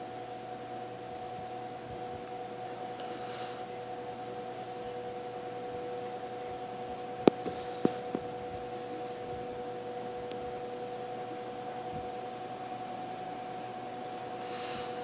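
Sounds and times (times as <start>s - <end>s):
fan motor whistling: 0.0s - 15.0s.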